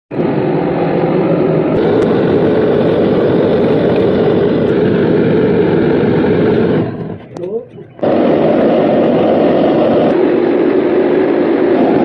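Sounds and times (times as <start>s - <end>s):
loud machine rumbling hiss: 0.1s - 12.0s.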